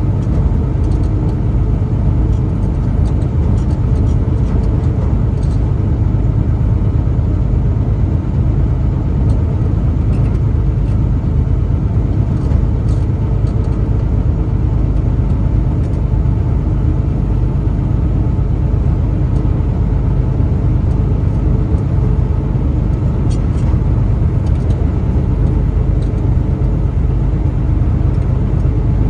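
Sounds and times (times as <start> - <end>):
truck engine and tyres rumbling: 0.0 - 29.0.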